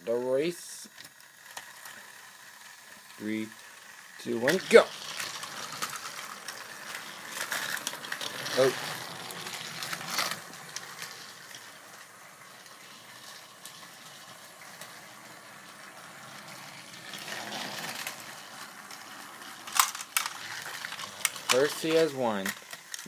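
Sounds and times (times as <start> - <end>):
toy train motor whirring: 0.0 - 23.0.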